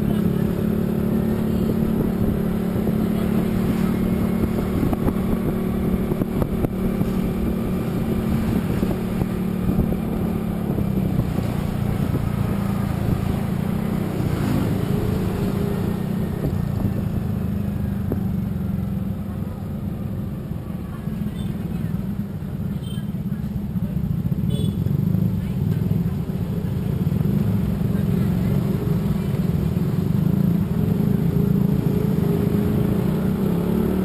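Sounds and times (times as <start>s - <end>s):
vehicle engine running: 0.0s - 33.8s
road and wind noise: 0.0s - 34.0s.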